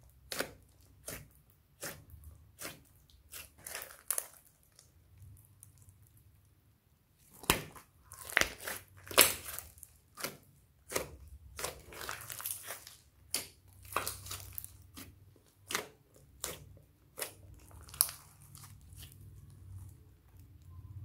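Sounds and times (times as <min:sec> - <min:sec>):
slime crackling and popping: 0:00.2 - 0:06.2, 0:07.2 - 0:20.6.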